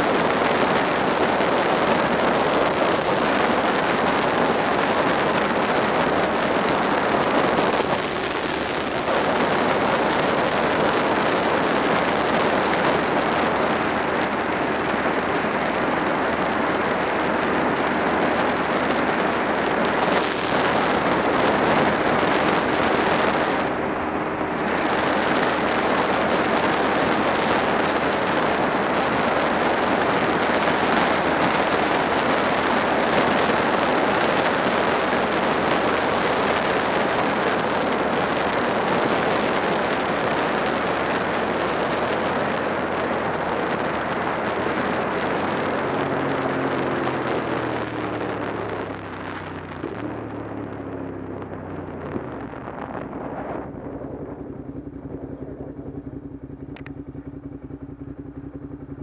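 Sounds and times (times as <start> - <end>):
motorcycle engine running: 0.0 - 59.0
wind rush over microphone: 0.0 - 59.0.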